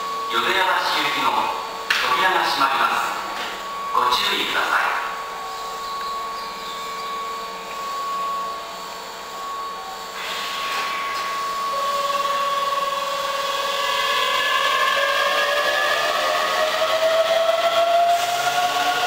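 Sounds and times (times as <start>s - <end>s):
electric train high whine: 0.0s - 19.0s
rising whines: 0.0s - 19.0s.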